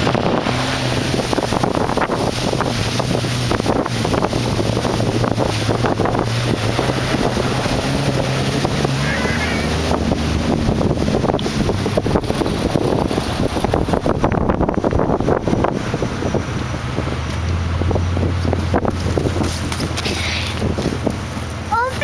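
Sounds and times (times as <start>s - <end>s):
vehicle engine running: 0.0s - 22.0s
wind noise on microphone: 0.0s - 22.0s.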